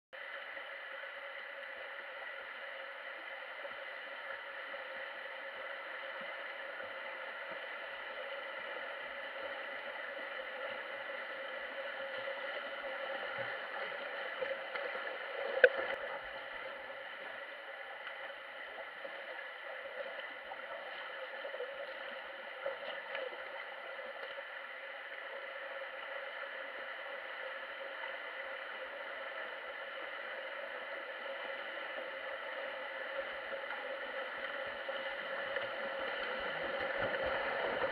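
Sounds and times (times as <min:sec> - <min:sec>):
muffled underwater hiss and hum: 0:00.2 - 0:37.9.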